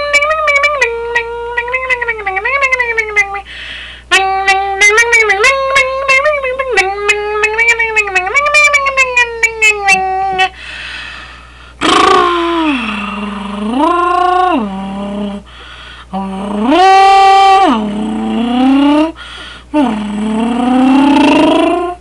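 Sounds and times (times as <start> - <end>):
woman chanting sing-song syllable: 0.0 - 3.5, 4.1 - 10.6, 11.8 - 15.5, 16.1 - 22.0.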